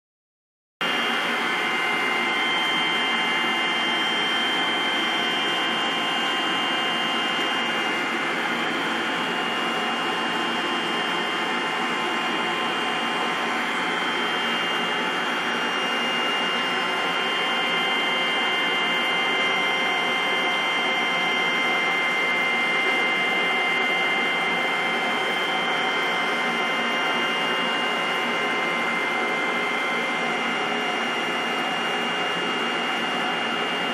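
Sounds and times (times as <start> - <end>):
aquarium pumps whirring and hissing: 0.9 - 33.9.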